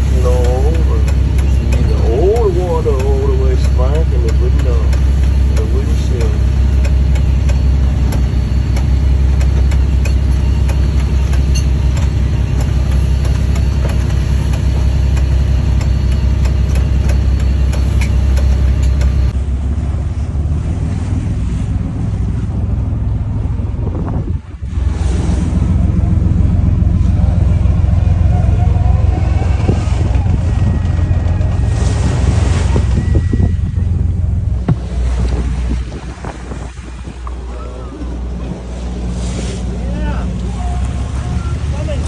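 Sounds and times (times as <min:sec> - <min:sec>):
boat engine drone: 0:00.0 - 0:42.0.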